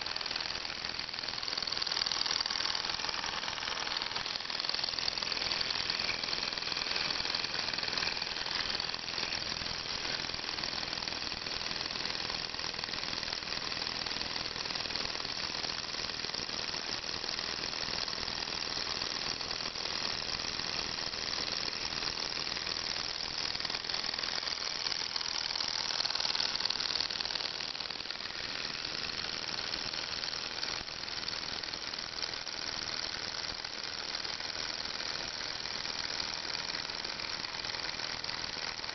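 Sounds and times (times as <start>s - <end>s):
small engine clicking rapidly: 0.0s - 38.9s.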